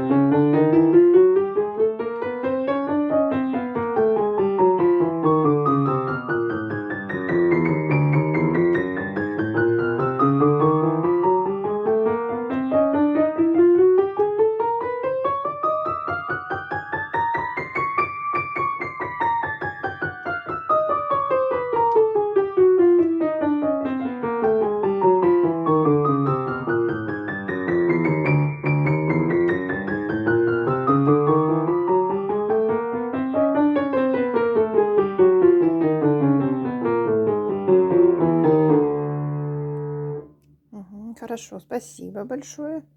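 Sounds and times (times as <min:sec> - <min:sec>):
piano scales: 0:00.0 - 0:40.4.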